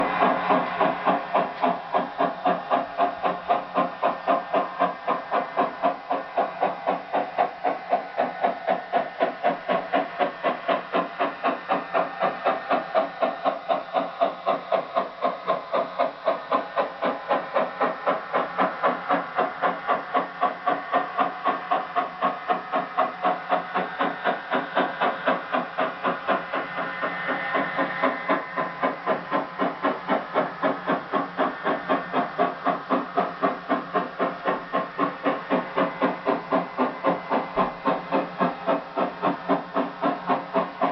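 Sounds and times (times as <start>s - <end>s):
model steam locomotive chuffing: 0.0s - 40.9s.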